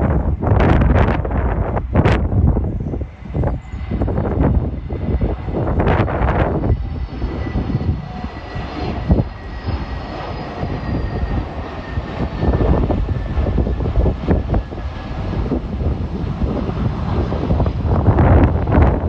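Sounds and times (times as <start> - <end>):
high engine whine: 0.0 - 19.0
jet engines rumbling: 0.0 - 19.0.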